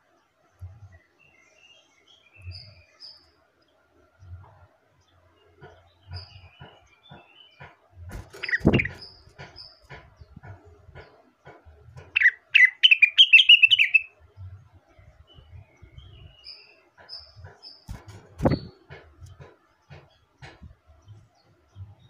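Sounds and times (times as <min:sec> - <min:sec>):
bird singing: 0:00.0 - 0:22.0.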